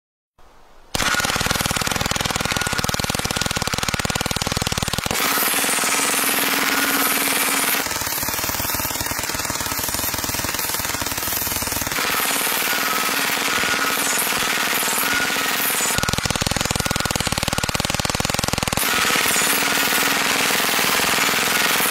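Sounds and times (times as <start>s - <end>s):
machine gun firing: 0.9s - 21.9s
bullets hitting steel targets: 1.0s - 21.9s.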